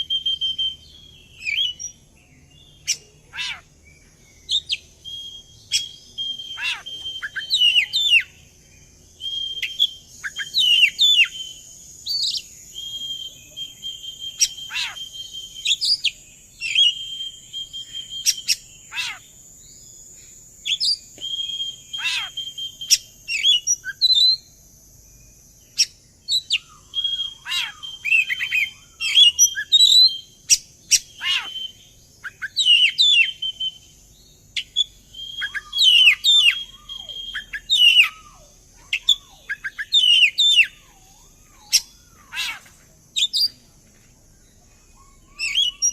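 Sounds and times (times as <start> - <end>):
bird singing whistles and chatter: 0.0 - 3.7, 4.4 - 8.4, 9.2 - 19.9, 20.6 - 24.5, 25.7 - 43.6, 44.5 - 45.9.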